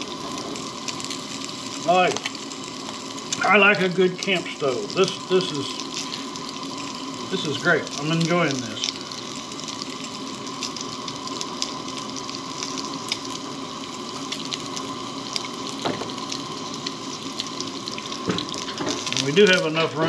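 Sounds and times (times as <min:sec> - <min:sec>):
bacon sizzling in a skillet: 0:00.0 - 0:20.0.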